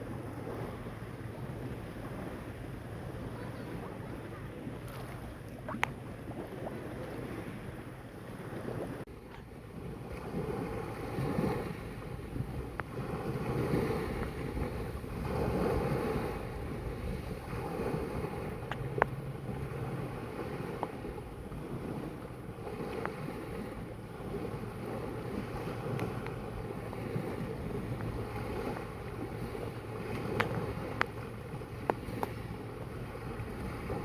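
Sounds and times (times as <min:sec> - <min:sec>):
sea waves washing: 0:00.0 - 0:34.0
wind buffeting microphone: 0:00.0 - 0:34.0.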